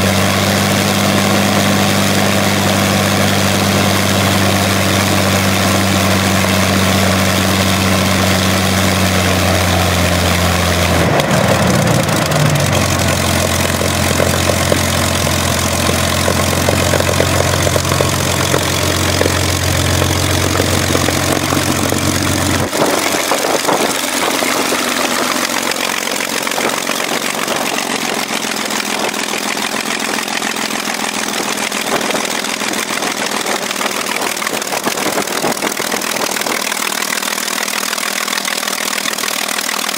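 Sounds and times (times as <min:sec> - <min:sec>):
aero engine running: 0:00.0 - 0:39.9.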